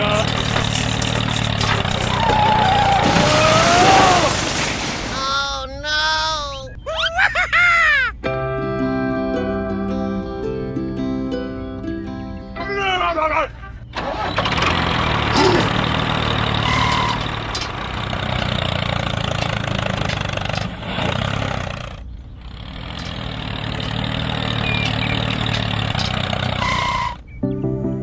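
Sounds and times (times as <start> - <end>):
tractor engine rumbling: 0.0 - 8.2, 10.2 - 27.5.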